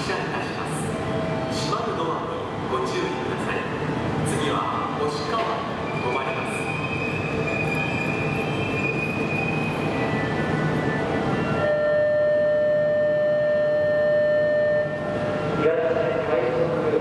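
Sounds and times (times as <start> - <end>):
electric train rumbling and whining: 0.0 - 17.0.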